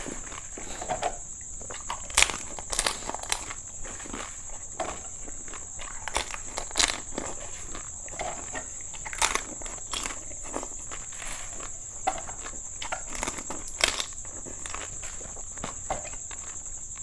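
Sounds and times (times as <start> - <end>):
crisp shells crunching when bitten: 1.7 - 17.0.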